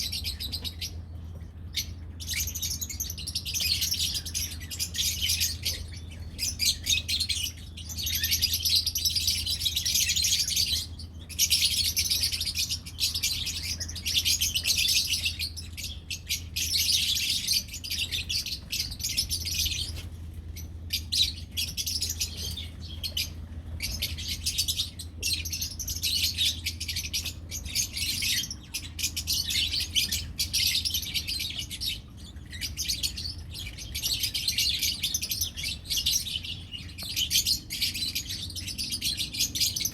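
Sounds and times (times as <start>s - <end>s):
lovebirds chattering and chirping: 0.0s - 39.9s
steady low hum: 0.0s - 39.9s.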